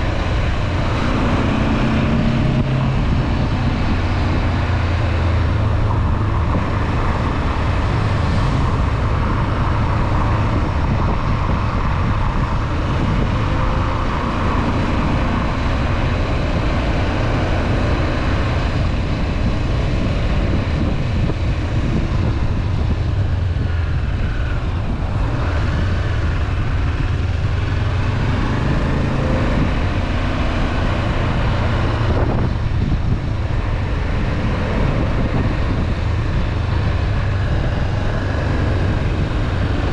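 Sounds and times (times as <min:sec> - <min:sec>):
motorcycle engine cruising: 0:00.0 - 0:39.9
riding wind rush: 0:00.0 - 0:39.9.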